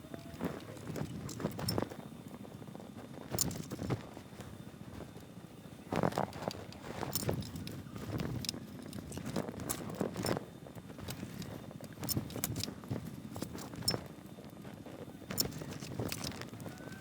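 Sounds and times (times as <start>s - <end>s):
handling rumble: 0.0s - 17.0s.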